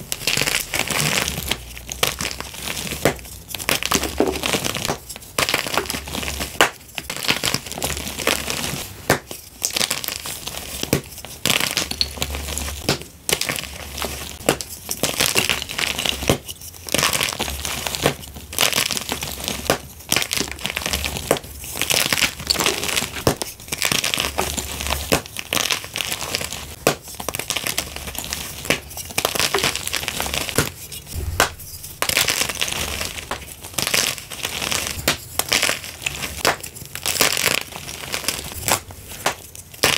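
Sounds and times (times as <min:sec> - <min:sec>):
chalk blocks snapping and crunching: 0:00.1 - 0:39.9.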